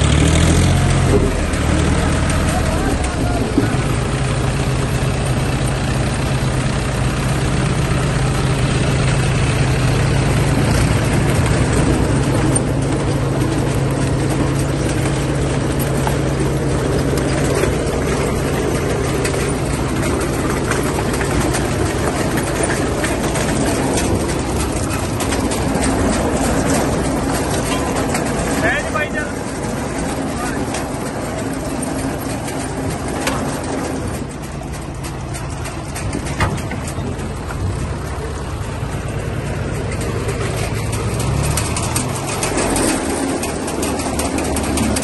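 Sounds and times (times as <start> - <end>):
conveyor chains rattling: 0.0 - 45.0
diesel tractor engine running: 0.0 - 45.0.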